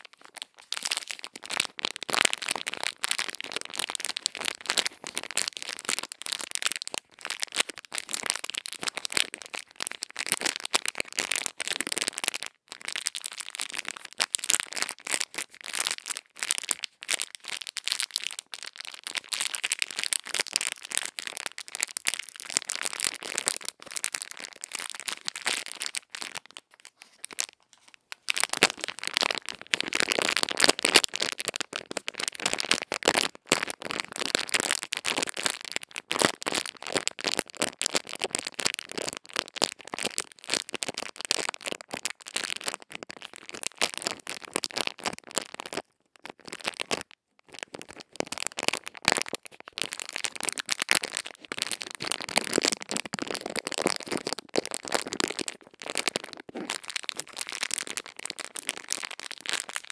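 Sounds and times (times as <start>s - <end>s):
crisp crackling and scratching: 0.0s - 12.0s, 13.1s - 45.8s, 46.6s - 59.9s.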